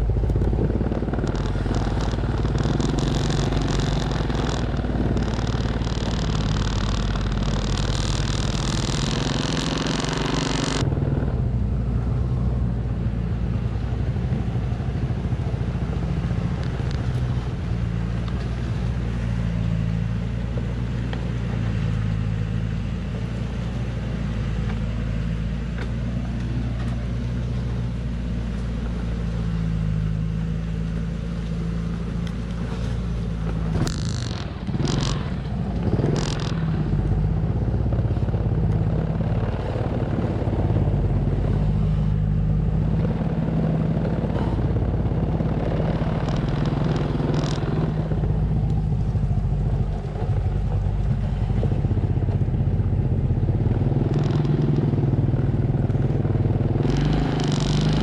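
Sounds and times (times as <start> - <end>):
truck engine pulling at low speed: 0.0 - 58.0.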